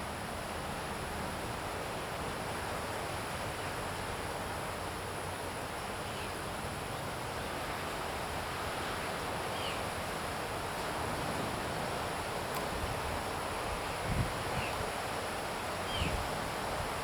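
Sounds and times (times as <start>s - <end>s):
rushing hiss like wind: 0.0s - 17.0s.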